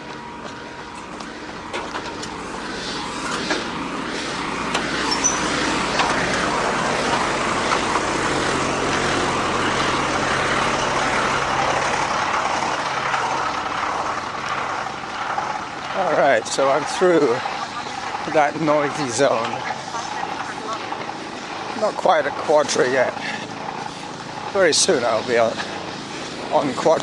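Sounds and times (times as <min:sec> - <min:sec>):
heavy engine running: 0:00.0 - 0:27.0
machinery clatter and rumble: 0:00.0 - 0:27.0.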